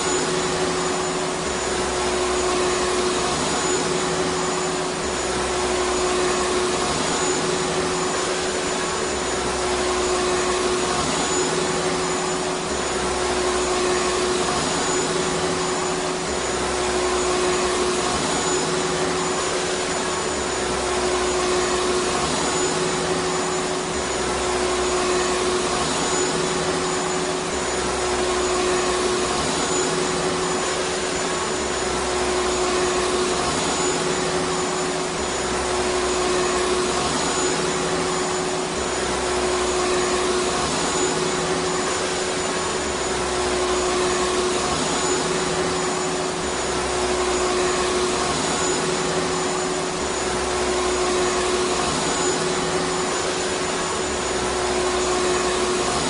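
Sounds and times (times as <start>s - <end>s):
vacuum cleaner motor running: 0.0s - 56.0s.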